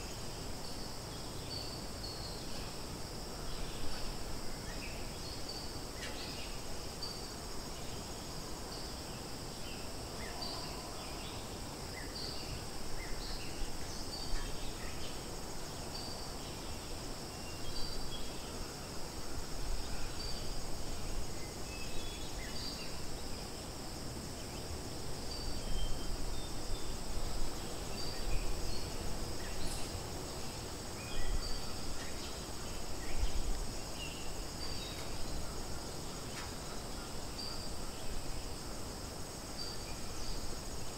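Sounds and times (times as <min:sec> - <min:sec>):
high drone of insects: 0:00.0 - 0:40.9.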